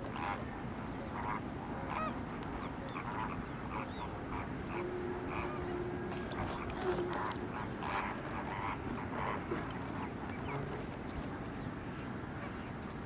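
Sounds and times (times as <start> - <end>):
flamingos honking and chattering: 0.0 - 12.9
steady low hum: 0.0 - 13.0.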